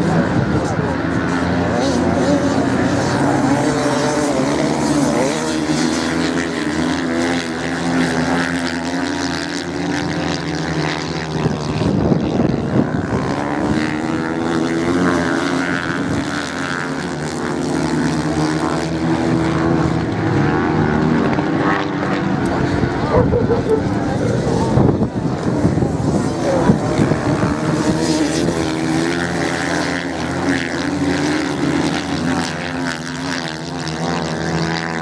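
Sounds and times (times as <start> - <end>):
motorcycle engines droning: 0.0 - 35.0.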